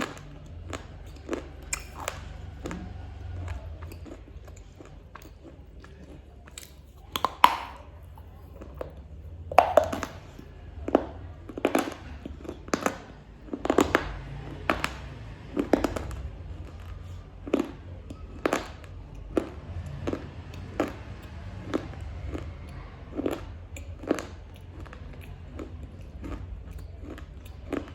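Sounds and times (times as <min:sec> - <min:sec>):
chocolate wafer bar crunching: 0:00.0 - 0:27.9.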